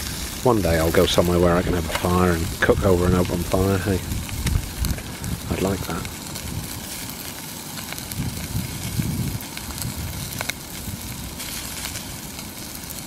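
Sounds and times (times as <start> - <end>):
gas stove burner rumble: 0.0 - 13.0
steak sizzling in a frying pan: 0.0 - 13.0.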